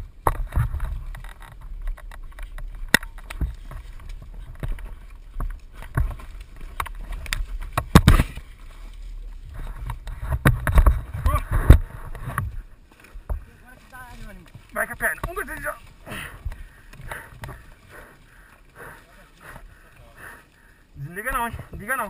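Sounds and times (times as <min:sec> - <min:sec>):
footsteps on dirt trail: 0:00.0 - 0:22.0.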